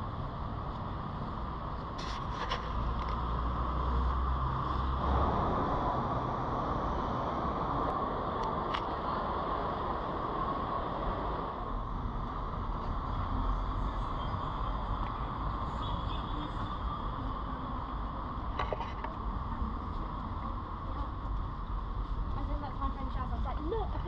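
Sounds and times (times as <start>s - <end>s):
busy pedestrian street noise: 0.0s - 24.0s.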